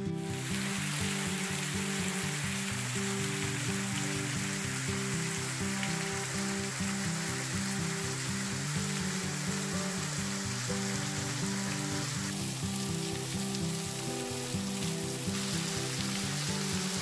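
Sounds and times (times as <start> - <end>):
soft instrumental music: 0.0 - 17.0
waterfall splashing: 0.0 - 17.0.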